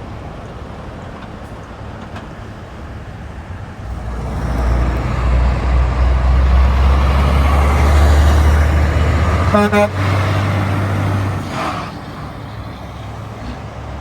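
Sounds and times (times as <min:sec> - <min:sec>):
heavy truck engine rumble: 0:00.0 - 0:14.0
road traffic: 0:00.0 - 0:14.0.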